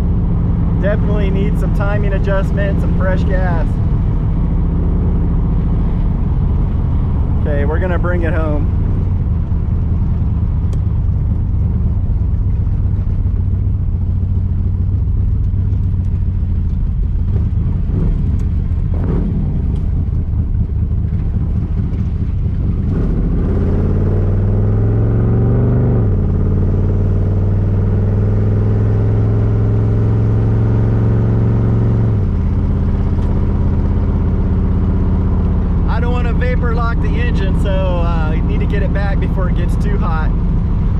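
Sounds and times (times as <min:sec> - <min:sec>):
car engine revving while driving: 0:00.0 - 0:40.9.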